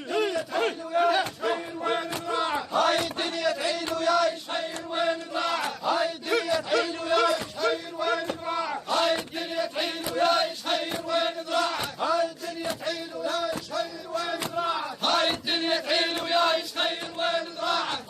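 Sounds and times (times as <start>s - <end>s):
crowd of men chanting: 0.0s - 18.0s.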